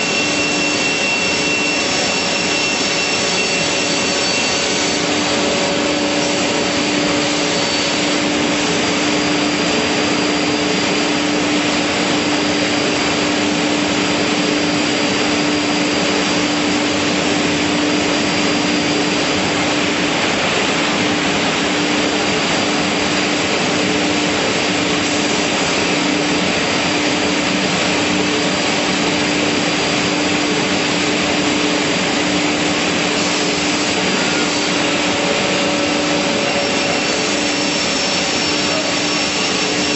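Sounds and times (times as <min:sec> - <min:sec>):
saw motors running: 0:00.0 - 0:39.9.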